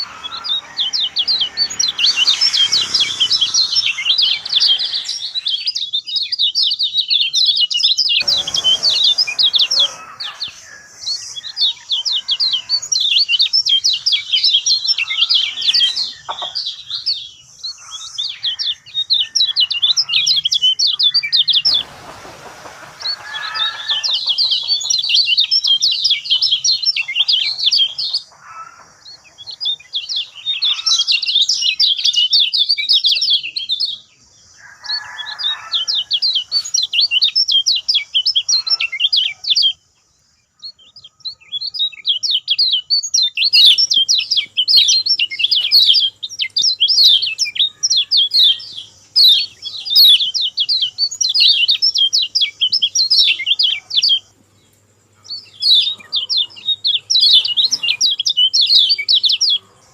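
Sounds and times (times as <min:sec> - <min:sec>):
bird high twittering song: 0:00.0 - 0:59.9.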